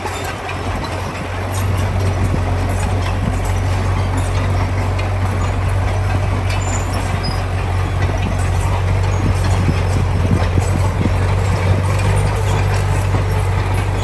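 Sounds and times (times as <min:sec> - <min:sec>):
heavy diesel engine running: 0:00.0 - 0:14.0
light metallic clanks: 0:00.0 - 0:14.0.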